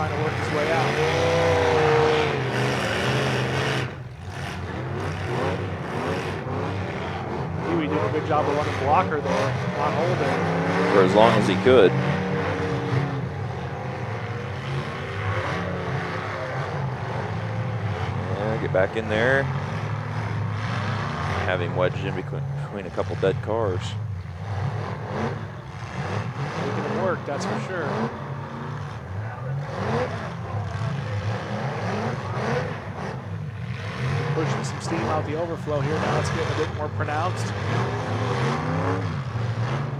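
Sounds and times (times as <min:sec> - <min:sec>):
car engines droning: 0:00.0 - 0:39.9.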